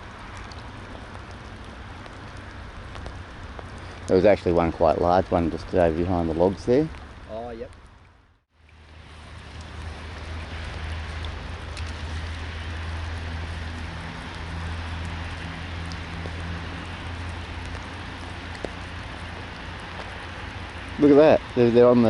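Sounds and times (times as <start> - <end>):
rain drop ticks: 0.0 - 22.0
steady rain hiss: 0.0 - 22.0.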